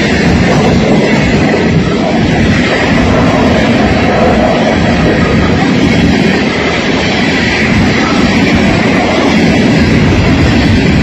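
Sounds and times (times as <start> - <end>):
steel wheels rolling on rails: 0.0 - 11.0.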